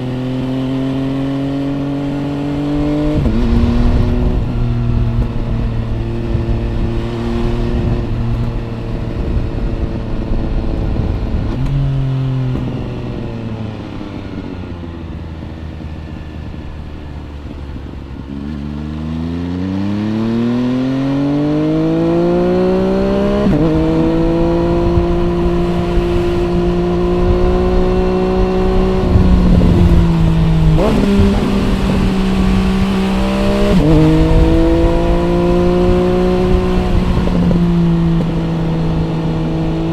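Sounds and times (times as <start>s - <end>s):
wind noise: 0.0s - 18.6s, 19.6s - 39.9s
motorcycle engine revving: 0.0s - 39.9s.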